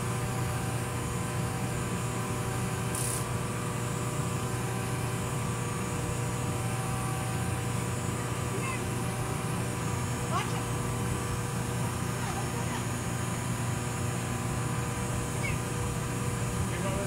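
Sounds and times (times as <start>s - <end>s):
mechanical bull drive humming: 0.0s - 17.0s.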